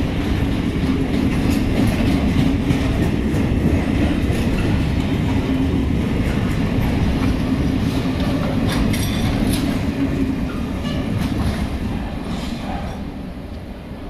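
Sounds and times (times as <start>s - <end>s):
freight wagon wheels rumbling: 0.0s - 12.2s.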